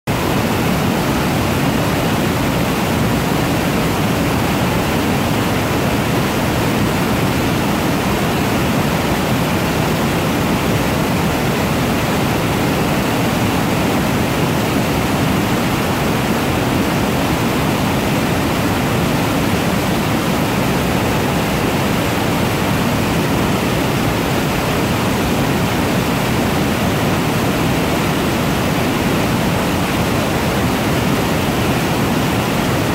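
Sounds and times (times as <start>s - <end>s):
roar of rushing water: 0.1s - 32.9s.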